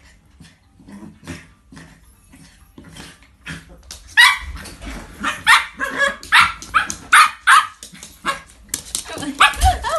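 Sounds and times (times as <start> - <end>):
dogs play-barking and yipping: 0.0 - 9.9.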